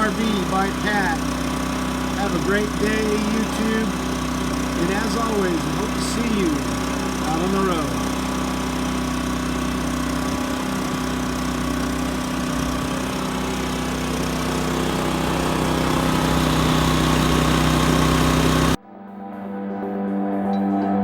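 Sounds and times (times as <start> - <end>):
generator engine running: 0.0 - 18.8.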